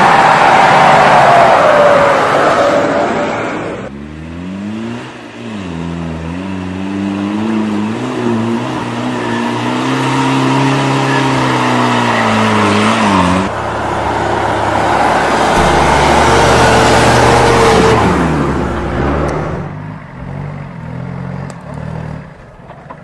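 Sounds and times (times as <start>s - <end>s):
noisier vehicle sound: 0.0s - 23.0s
engine working under load: 0.1s - 23.0s.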